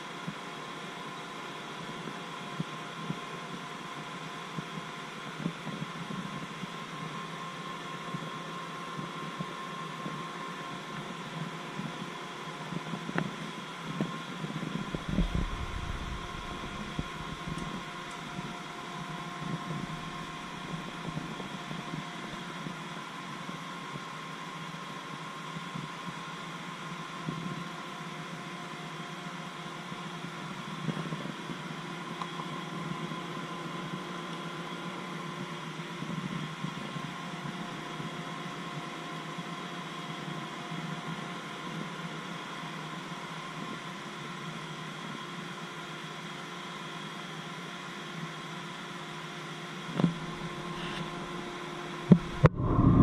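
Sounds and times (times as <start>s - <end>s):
machinery and ventilation drone: 0.0s - 53.0s.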